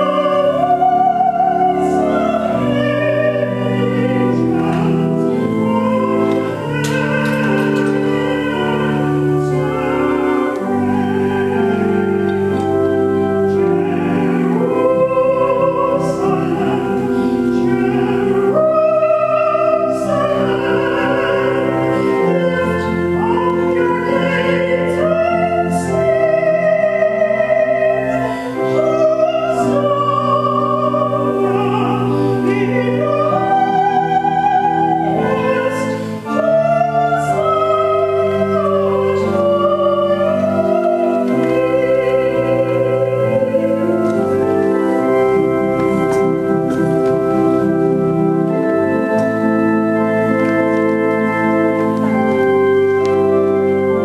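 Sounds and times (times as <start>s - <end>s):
pipe organ chords: 0.0s - 54.0s
soprano singing with vibrato: 0.0s - 54.0s.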